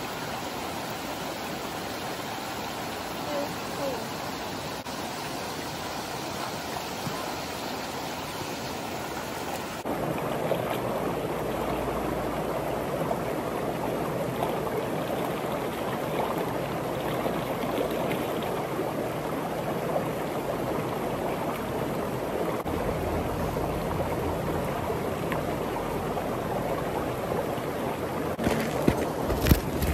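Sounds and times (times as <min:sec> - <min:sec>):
creek running over rocks: 0:00.0 - 0:29.9.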